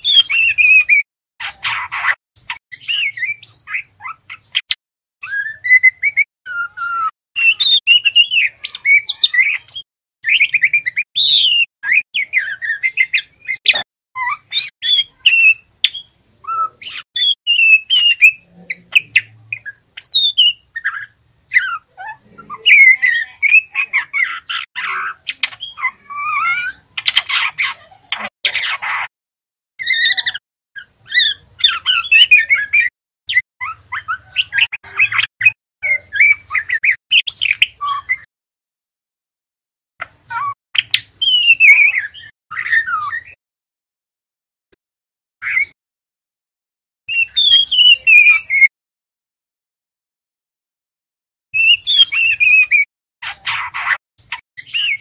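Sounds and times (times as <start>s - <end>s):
bird chirping and warbling: 0.0s - 29.1s, 29.8s - 38.3s, 40.0s - 43.4s, 45.4s - 45.8s, 47.1s - 48.7s, 51.6s - 55.0s.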